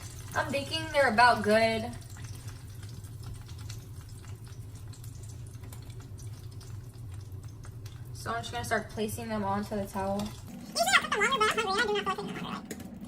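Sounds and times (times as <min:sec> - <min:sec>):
dumplings sizzling in oil: 0:00.0 - 0:10.9
low steady hum: 0:00.0 - 0:13.0.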